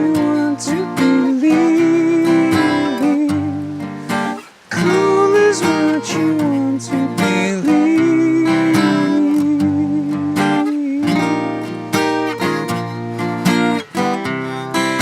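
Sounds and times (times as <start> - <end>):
wordless singing: 0.0 - 13.0
acoustic guitar: 0.0 - 15.0.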